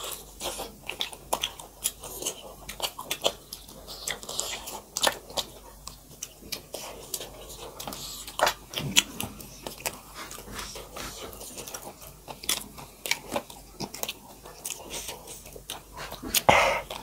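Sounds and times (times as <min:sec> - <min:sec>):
wet chewing and lip smacks: 0:00.0 - 0:17.0.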